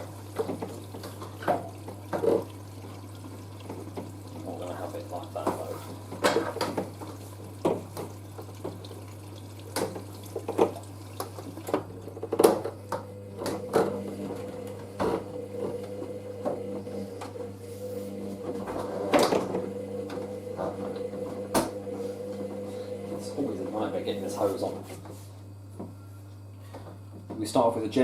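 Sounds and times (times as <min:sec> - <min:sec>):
water running: 0:00.0 - 0:25.1
mechanical hum: 0:00.0 - 0:28.0.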